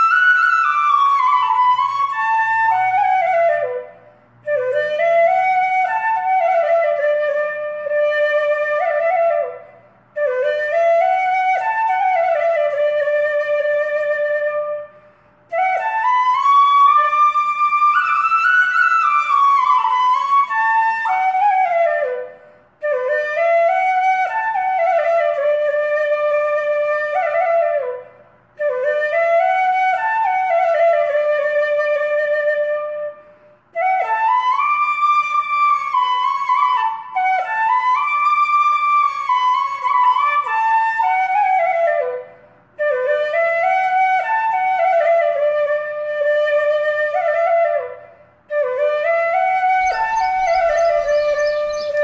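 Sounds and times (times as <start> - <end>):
solo flute melody: 0.0 - 52.0.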